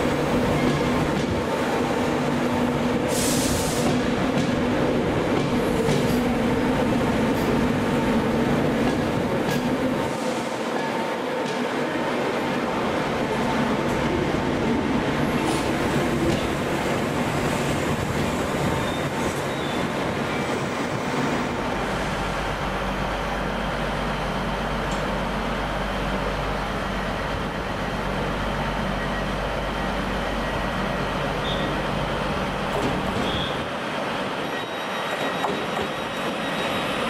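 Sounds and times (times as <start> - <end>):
rail and station rumble: 0.0 - 37.0
train low hum: 0.0 - 37.0.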